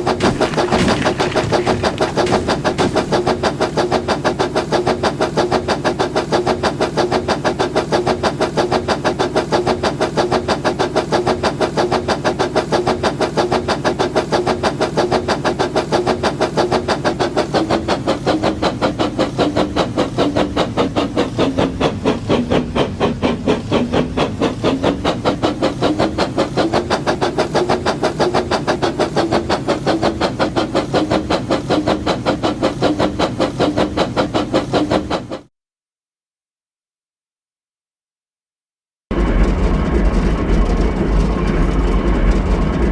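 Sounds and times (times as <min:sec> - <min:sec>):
gears clicking: 0:00.0 - 0:35.5
toy train motor whirring: 0:00.0 - 0:35.5.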